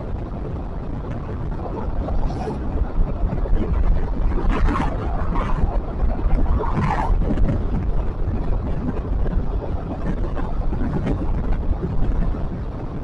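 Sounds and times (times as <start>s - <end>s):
vehicle low rumble: 0.0s - 13.0s
wind noise on microphone: 0.0s - 13.0s.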